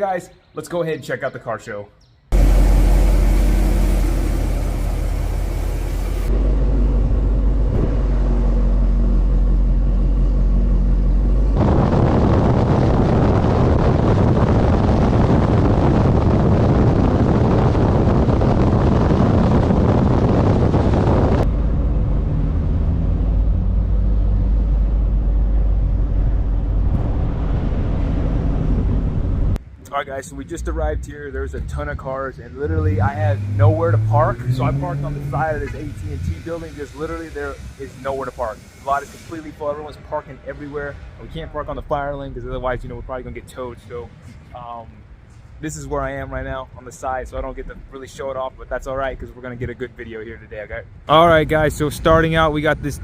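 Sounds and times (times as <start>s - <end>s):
road and wind noise: 2.0s - 53.0s
car engine droning: 2.3s - 45.3s.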